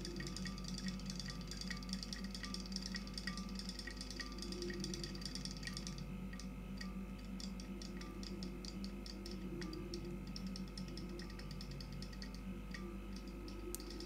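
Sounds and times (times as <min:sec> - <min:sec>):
faint steady hum: 0:00.0 - 0:14.0
toy fish motor ticking: 0:00.0 - 0:14.0.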